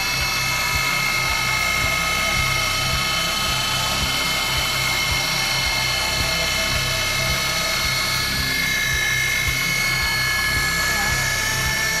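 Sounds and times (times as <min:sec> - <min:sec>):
milling machine spindle whining: 0:00.0 - 0:12.0.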